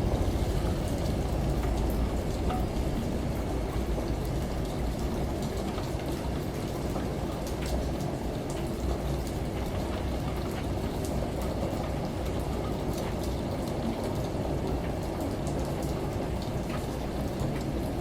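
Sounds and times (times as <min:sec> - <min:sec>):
steady rain: 0:00.0 - 0:18.0
raindrops ticking: 0:00.1 - 0:18.0.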